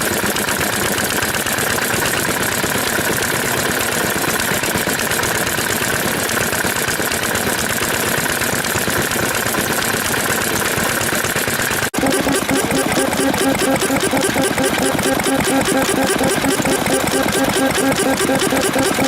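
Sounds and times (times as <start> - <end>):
stationary engine running: 0.0 - 19.0.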